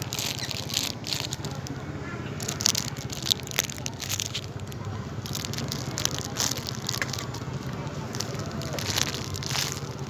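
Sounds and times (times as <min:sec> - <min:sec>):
plastic crinkling and rustling: 0:00.0 - 0:10.0.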